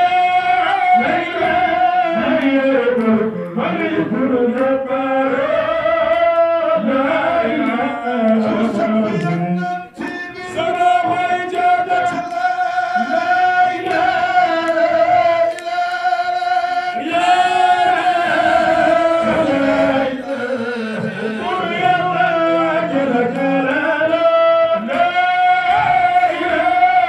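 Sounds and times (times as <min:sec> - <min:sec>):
men chanting a devotional song: 0:00.0 - 0:27.0.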